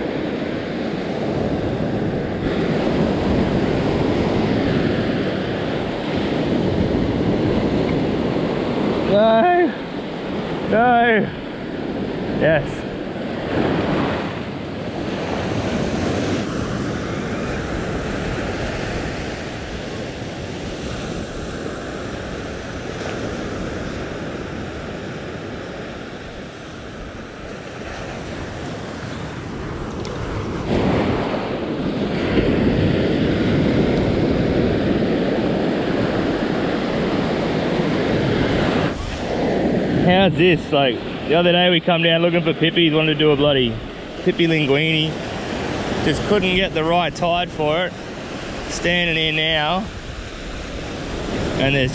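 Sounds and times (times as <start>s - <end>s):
ocean surf breaking on beach: 0.0s - 51.9s.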